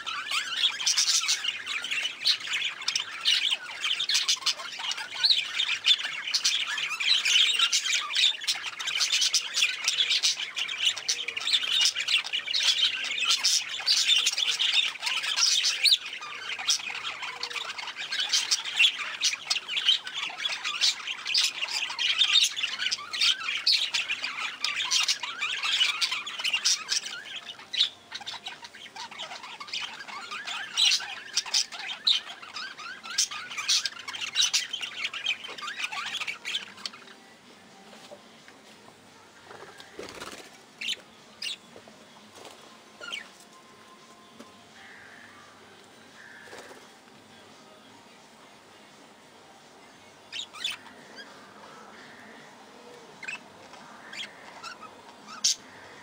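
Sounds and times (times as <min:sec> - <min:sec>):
budgerigars chirping and squawking: 0:00.0 - 0:37.3, 0:39.5 - 0:41.6, 0:42.4 - 0:43.3, 0:50.3 - 0:56.0.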